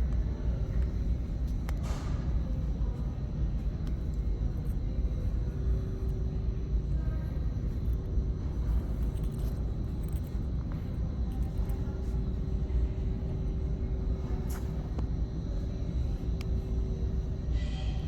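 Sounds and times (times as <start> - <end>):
faint steady hum: 0.0 - 18.0
low rumble of hall: 0.0 - 18.0.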